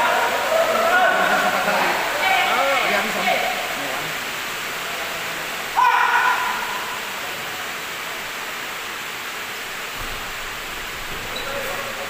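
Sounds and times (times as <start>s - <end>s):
sports hall hiss: 0.0s - 12.0s.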